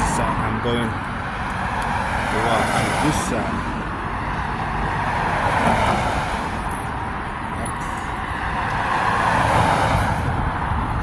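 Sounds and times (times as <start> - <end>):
road traffic hiss: 0.0 - 10.5
low traffic rumble: 0.0 - 11.0.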